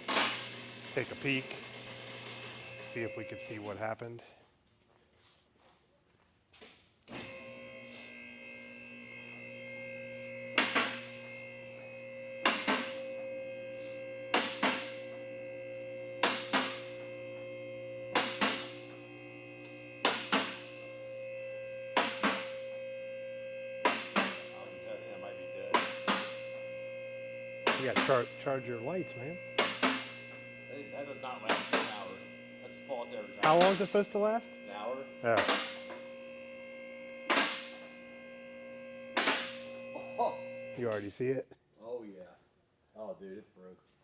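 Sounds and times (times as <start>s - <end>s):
electric pump motor humming: 0.0s - 3.8s, 7.1s - 41.0s.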